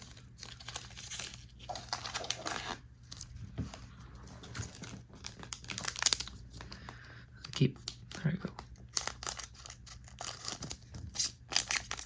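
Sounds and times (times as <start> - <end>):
foil wrappers crinkling and tearing: 0.0 - 3.4, 4.4 - 12.0.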